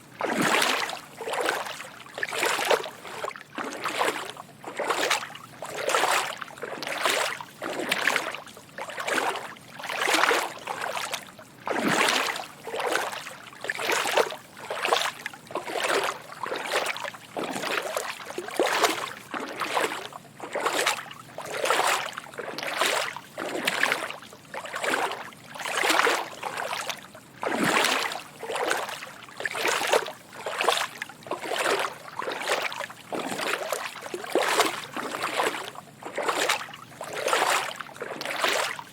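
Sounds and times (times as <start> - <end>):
footsteps wading through water: 0.0 - 38.9.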